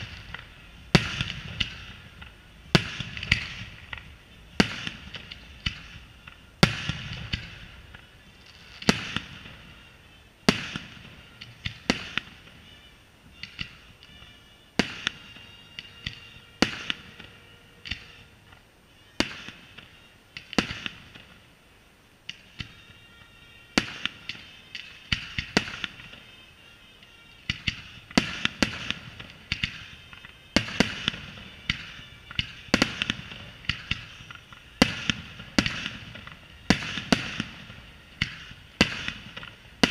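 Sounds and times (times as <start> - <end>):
firework shells bursting: 0.0 - 9.8, 10.5 - 21.4, 27.0 - 39.9
hiss after firework bangs: 0.0 - 14.1, 14.8 - 26.5, 27.4 - 39.9.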